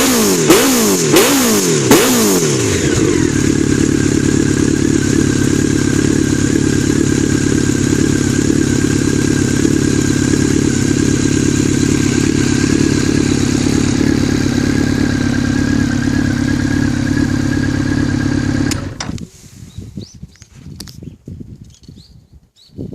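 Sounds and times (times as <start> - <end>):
motorcycle engine running: 0.0 - 19.3.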